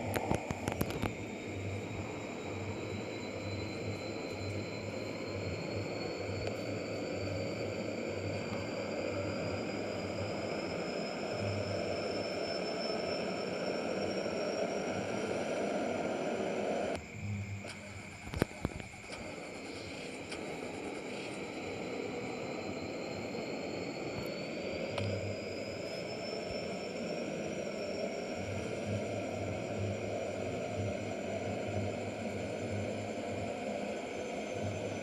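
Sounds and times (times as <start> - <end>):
high whine: 0.0 - 35.0.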